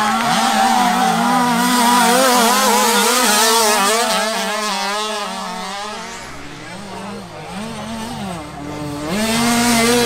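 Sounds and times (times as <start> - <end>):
motocross motorcycles revving: 0.0 - 10.0.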